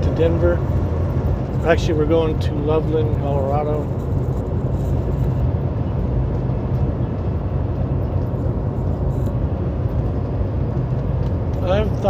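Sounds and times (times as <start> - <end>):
road noise: 0.0 - 12.0
truck engine drone: 0.0 - 12.0.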